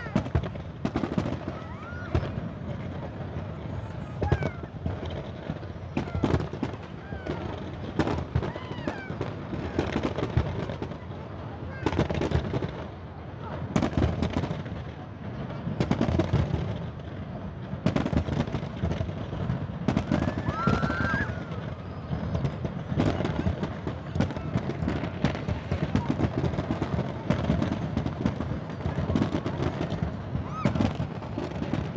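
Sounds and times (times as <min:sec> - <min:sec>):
fireworks bangs: 0:00.0 - 0:31.9.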